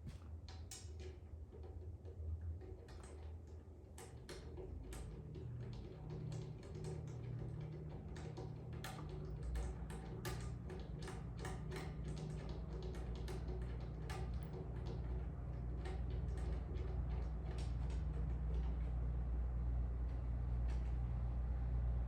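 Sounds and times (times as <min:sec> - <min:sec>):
low steady hum: 0:00.0 - 0:22.0
small hardware clicks and taps: 0:00.4 - 0:18.9.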